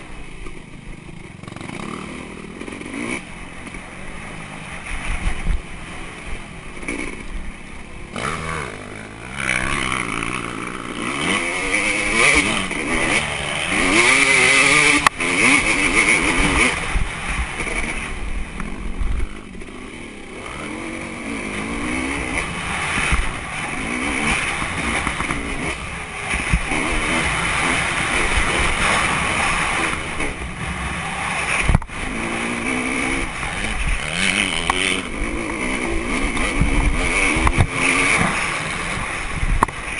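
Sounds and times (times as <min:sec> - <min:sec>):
dirt bike engine revving: 0:00.0 - 0:39.9
wind rushing over microphone: 0:03.4 - 0:39.9.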